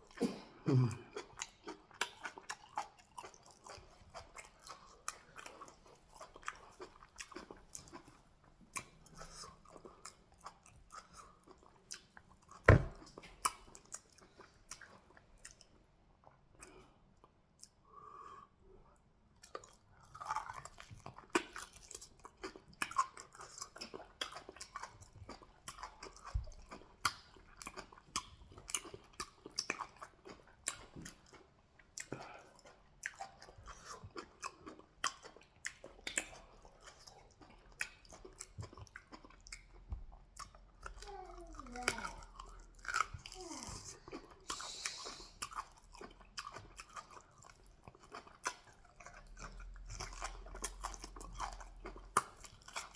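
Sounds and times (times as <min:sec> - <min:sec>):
close chewing and mouth smacking: 0:00.0 - 0:52.9.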